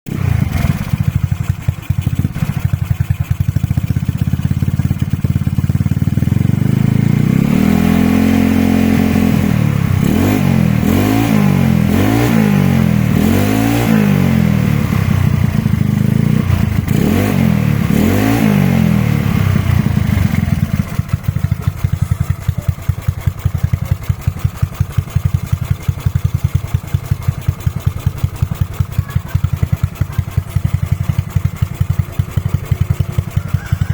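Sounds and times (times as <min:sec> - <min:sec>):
scooter engine idling and revving: 0:00.0 - 0:33.9.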